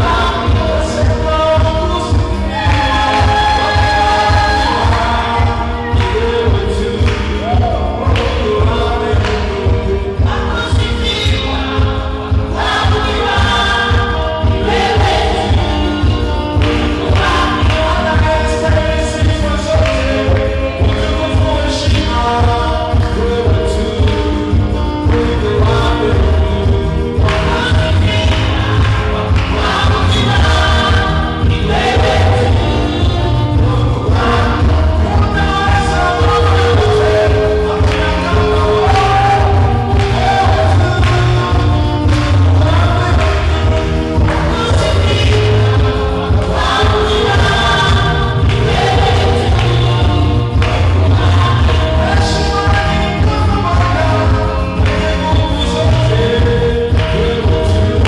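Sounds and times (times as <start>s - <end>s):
band with bass and drums: 0.0s - 58.0s
person singing: 0.0s - 58.0s.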